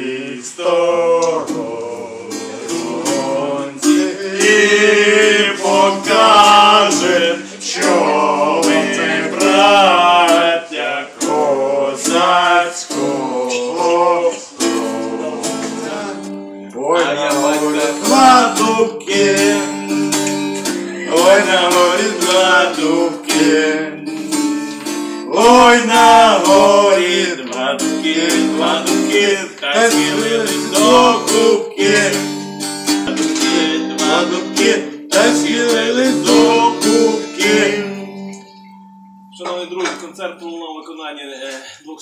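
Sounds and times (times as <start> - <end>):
men singing together: 0.0 - 24.5, 25.1 - 38.5
acoustic guitar strumming: 0.6 - 41.1.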